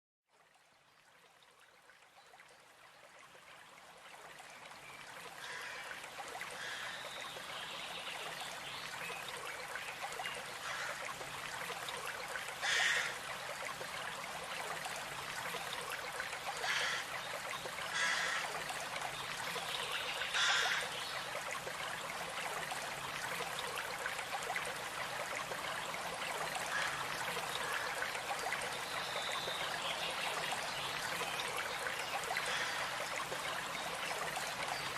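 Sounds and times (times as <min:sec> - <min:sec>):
stream running: 0:00.3 - 0:34.9.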